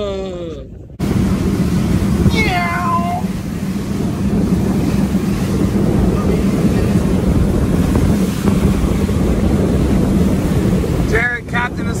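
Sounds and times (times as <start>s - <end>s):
low engine hum: 0.0s - 12.0s
wind buffeting microphone: 0.0s - 12.0s.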